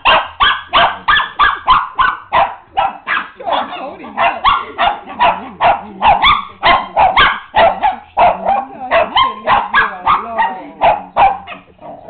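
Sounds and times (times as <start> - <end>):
small dog barking rapidly: 0.0 - 12.0.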